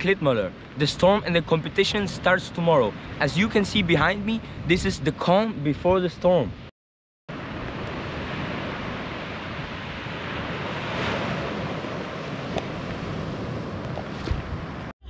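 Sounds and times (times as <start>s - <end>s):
sea surf washing ashore: 0.0s - 6.0s, 7.3s - 14.9s
wind: 0.0s - 6.7s, 7.3s - 15.0s.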